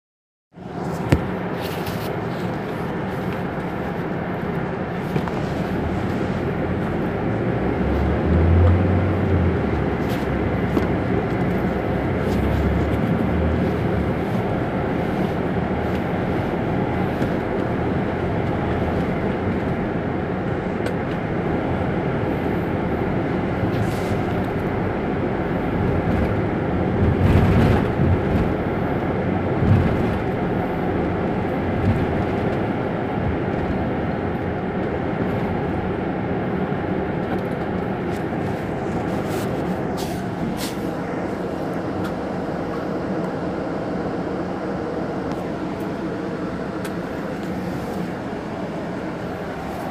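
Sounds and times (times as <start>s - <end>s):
diesel bus engine idling: 0.6s - 49.9s.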